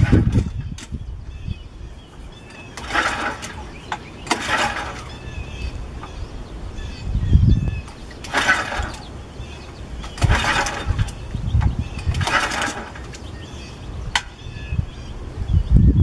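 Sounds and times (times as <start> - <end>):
recoil starter cord whir: 0.0 - 14.4.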